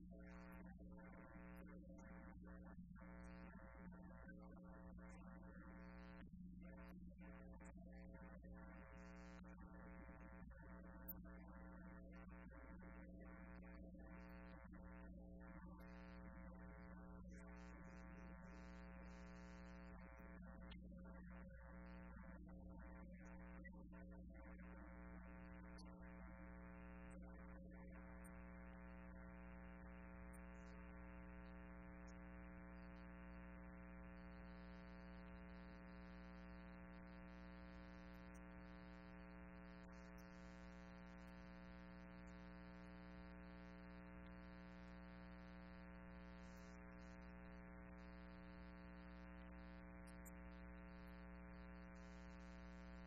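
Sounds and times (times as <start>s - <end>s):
faint electrical hum and buzz: 0.0s - 53.0s.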